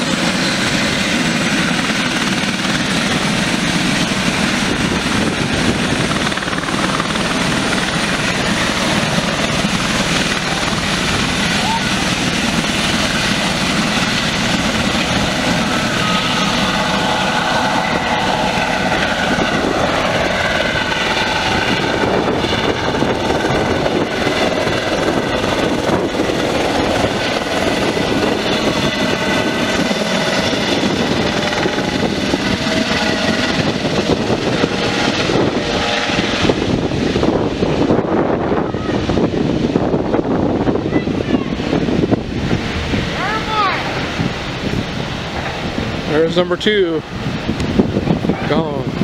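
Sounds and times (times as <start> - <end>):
helicopter flying overhead: 0.0 - 49.0.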